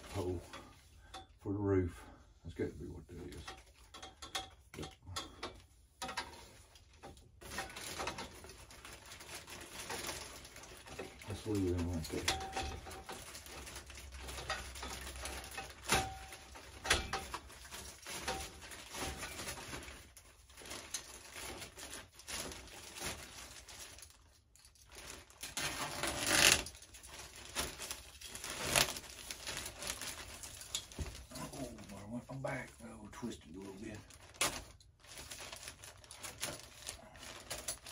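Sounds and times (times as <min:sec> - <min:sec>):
plastic wrap rustling: 0:00.0 - 0:01.3, 0:05.4 - 0:37.9.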